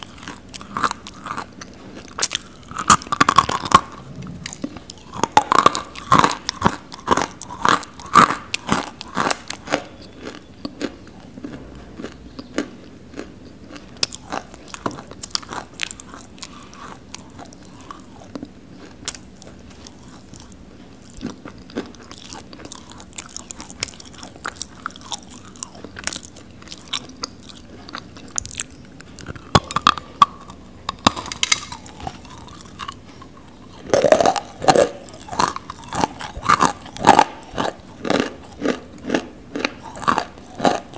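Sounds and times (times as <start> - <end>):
crunchy chewing of clay: 0.0 - 40.9.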